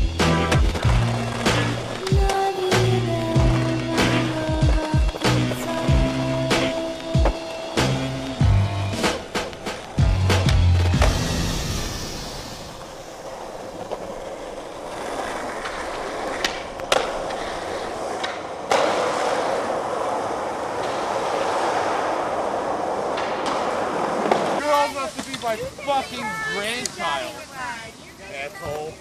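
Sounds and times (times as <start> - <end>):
skateboard clacks: 0.0 - 11.2, 13.2 - 25.7
skateboard wheels rolling on pavement: 0.0 - 29.0.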